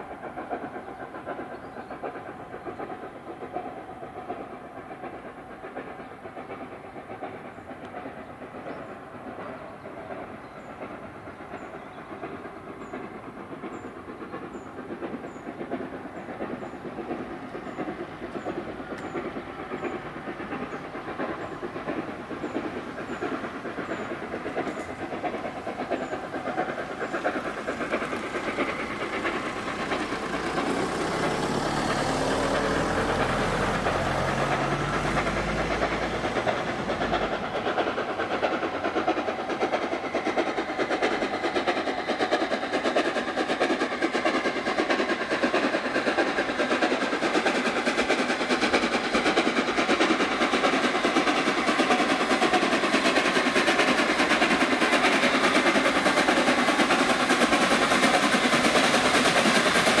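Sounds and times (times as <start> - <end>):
train wheels clattering on rails: 0.0 - 60.0.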